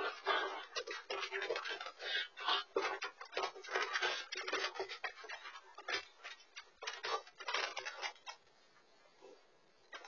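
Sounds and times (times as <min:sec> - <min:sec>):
dogs scuffling: 0:00.0 - 0:08.5
claws clicking and tapping: 0:00.3 - 0:08.4.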